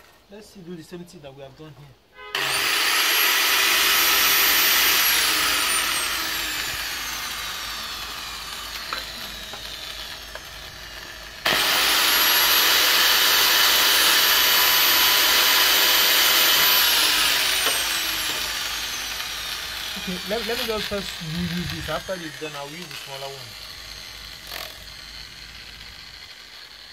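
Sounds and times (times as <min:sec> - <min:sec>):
angle grinder whining: 0:02.2 - 0:26.9.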